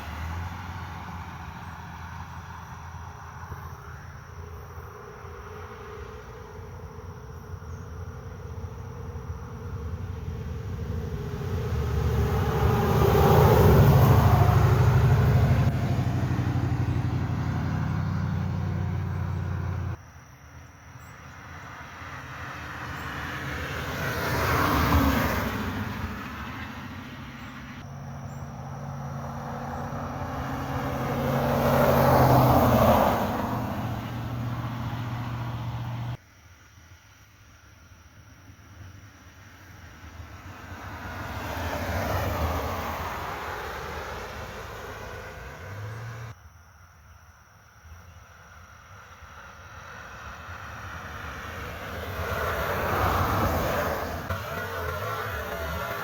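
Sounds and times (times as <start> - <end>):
cars passing: 0.0 - 20.0, 21.2 - 36.2, 39.9 - 46.4, 48.6 - 56.0.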